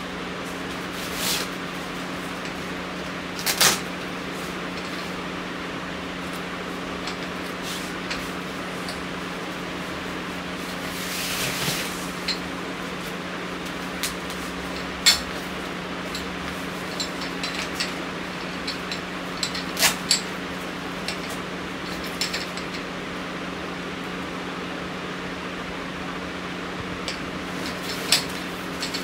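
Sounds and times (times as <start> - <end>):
steady fan hum: 0.0 - 29.0.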